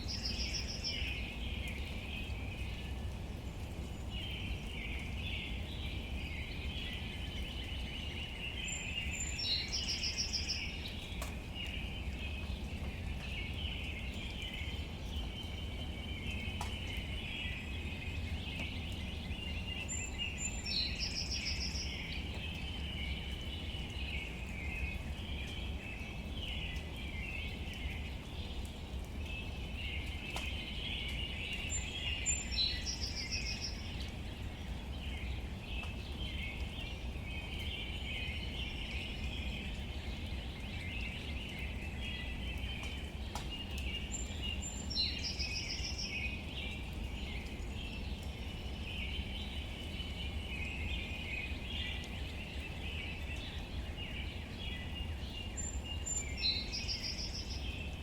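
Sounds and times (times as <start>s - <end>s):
bird song: 0.0s - 58.0s.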